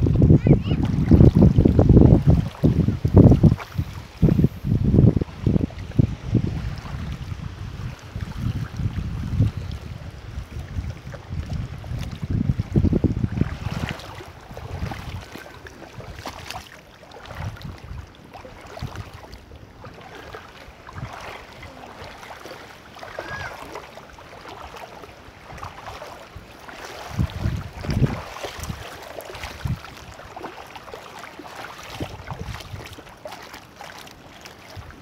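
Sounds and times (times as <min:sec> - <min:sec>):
wind buffeting microphone: 0:00.0 - 0:22.2, 0:25.4 - 0:30.6, 0:31.8 - 0:33.0
water splashing from wading: 0:00.0 - 0:35.0.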